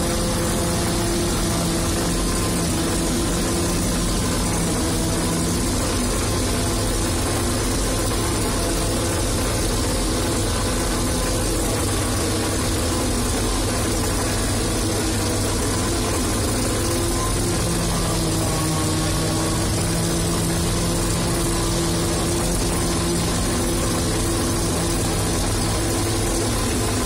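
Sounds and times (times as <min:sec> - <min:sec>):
harvester engine drone: 0:00.0 - 0:27.0
humming tone: 0:00.0 - 0:27.0
machinery noise: 0:00.0 - 0:27.0.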